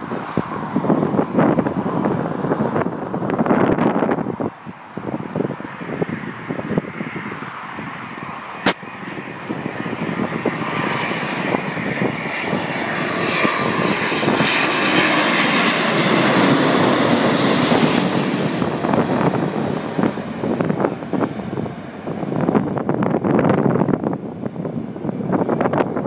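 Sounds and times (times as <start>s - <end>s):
jet engines rushing: 0.0s - 26.0s
wind buffeting microphone: 0.0s - 26.0s.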